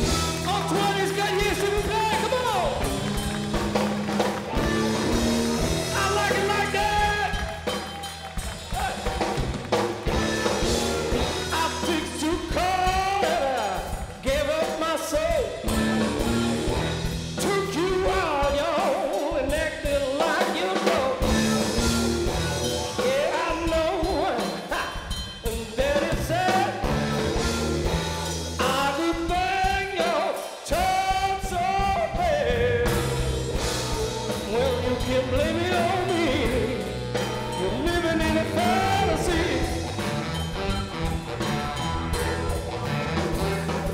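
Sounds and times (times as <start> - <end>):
electric guitars: 0.0 - 18.7, 20.2 - 25.2, 32.4 - 43.9
drum kit: 0.0 - 43.9.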